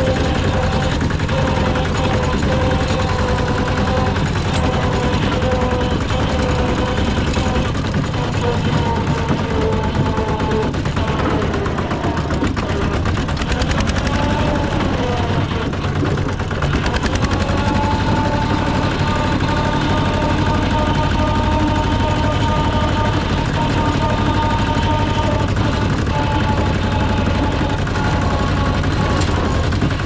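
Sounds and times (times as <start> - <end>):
harvester engine drone: 0.0 - 30.0
machinery clatter: 0.0 - 30.0
wavering whine: 0.0 - 30.0.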